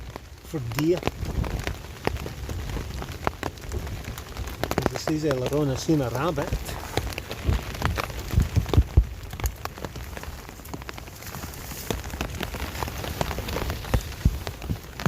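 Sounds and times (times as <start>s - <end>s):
raindrops striking tarp: 0.0s - 15.0s
steady hiss of rain: 0.0s - 15.0s.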